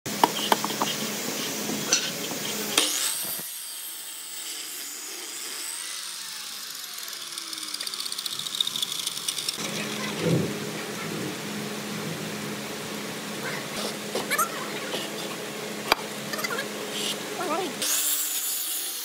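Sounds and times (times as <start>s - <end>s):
miter saw cutting wood: 0.1s - 10.7s, 13.7s - 19.0s.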